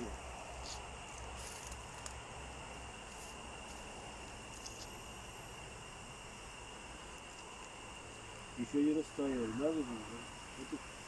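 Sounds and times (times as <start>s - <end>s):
crickets chirring: 0.0s - 11.0s
low outdoor hiss: 0.0s - 11.0s.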